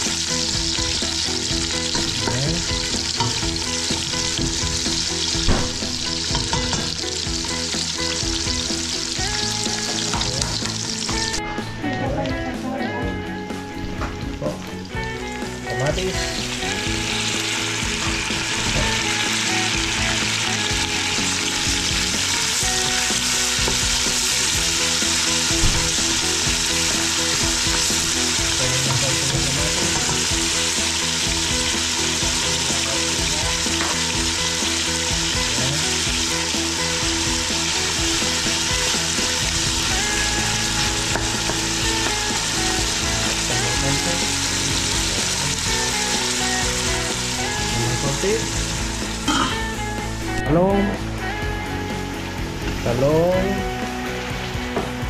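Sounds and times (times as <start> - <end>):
food sizzling in hot oil: 0.0 - 11.5, 13.8 - 50.4.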